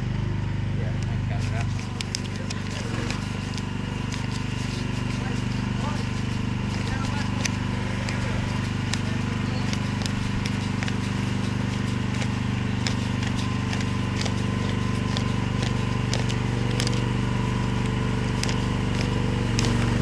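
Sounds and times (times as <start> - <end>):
machine engine running: 0.0 - 20.0.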